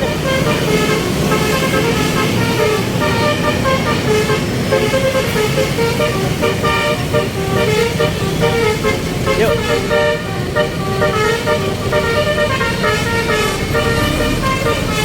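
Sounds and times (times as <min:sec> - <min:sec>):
engine and road noise: 0:00.0 - 0:15.0
musical bus horn: 0:00.0 - 0:15.0.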